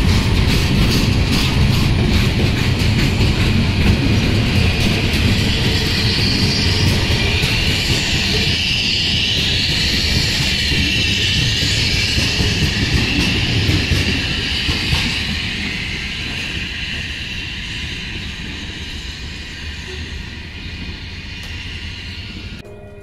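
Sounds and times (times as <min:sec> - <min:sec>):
train wheels rumbling: 0:00.0 - 0:23.0
high wavering wheel squeal: 0:04.5 - 0:23.0.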